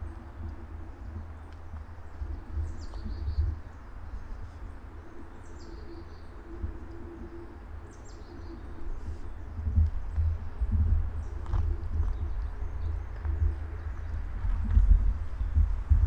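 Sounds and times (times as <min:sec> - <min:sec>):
songbird calling: 0:00.0 - 0:15.9.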